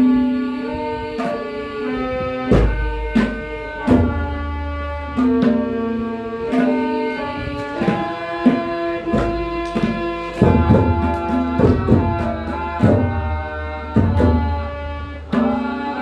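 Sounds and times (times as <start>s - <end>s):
tabla drumming: 1.1s - 16.0s.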